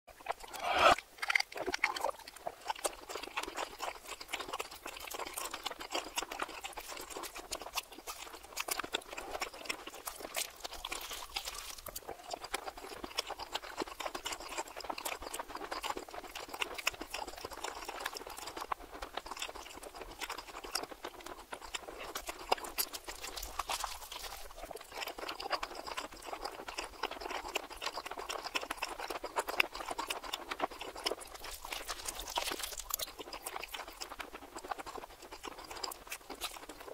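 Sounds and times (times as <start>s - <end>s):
reversed chewing crackles: 0.1s - 36.9s.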